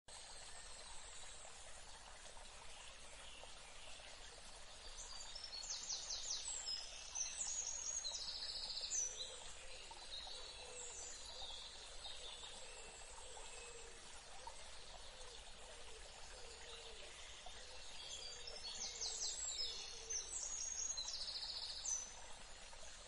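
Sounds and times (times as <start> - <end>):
gentle water flowing: 0.1 - 23.0.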